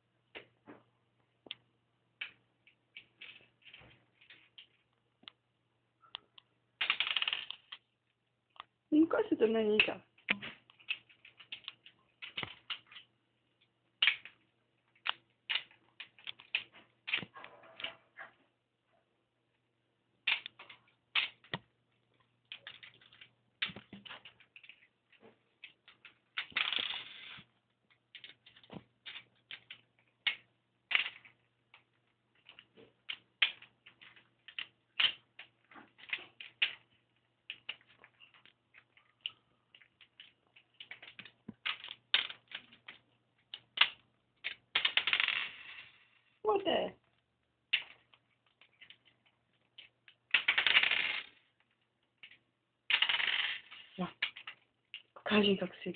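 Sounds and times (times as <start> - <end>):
game pieces rattling: 2.2 - 5.0, 6.8 - 7.9, 9.7 - 17.9, 20.2 - 46.4, 47.1 - 55.5.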